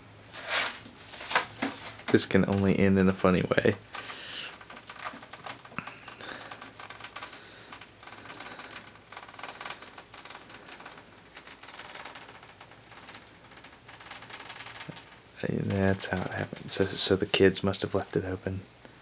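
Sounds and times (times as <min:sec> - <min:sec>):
mesh enclosure clicking and rustling: 0:00.3 - 0:02.8, 0:03.7 - 0:17.3.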